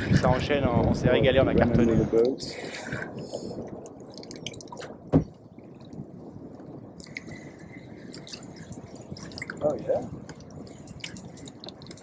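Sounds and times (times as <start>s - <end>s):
water dripping and splashing: 2.2s - 12.0s.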